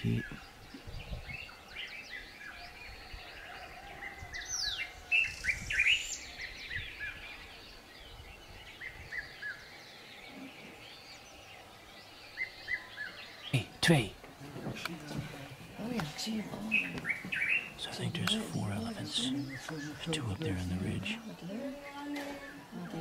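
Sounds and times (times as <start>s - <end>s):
birds chirping and whistling: 0.0s - 13.8s, 15.8s - 21.4s
faint ambient background: 0.0s - 23.0s.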